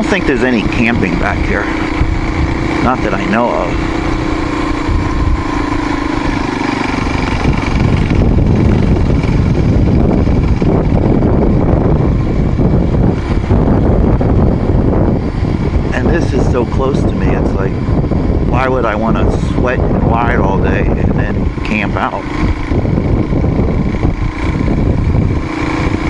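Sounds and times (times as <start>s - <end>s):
dirt bike engine running: 0.0s - 26.0s
rough rushing noise: 0.0s - 26.0s.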